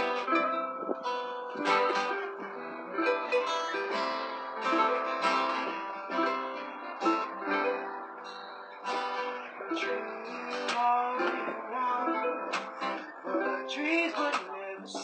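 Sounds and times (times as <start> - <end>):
acoustic guitars: 0.0 - 15.0
ukulele strummed: 0.0 - 15.0.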